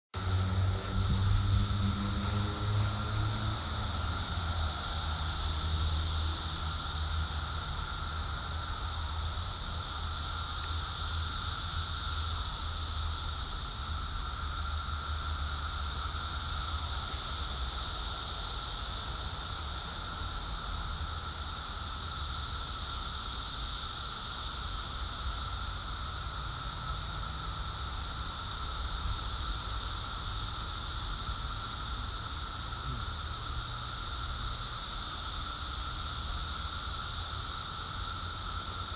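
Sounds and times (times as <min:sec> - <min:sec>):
cicadas buzzing: 0:00.2 - 0:38.9
low cicada drone: 0:00.2 - 0:38.9.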